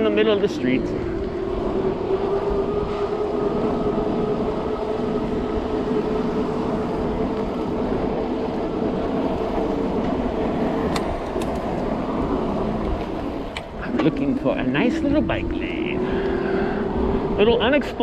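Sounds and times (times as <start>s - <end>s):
street traffic: 0.0s - 18.0s
vehicle mechanical whine: 0.0s - 18.0s.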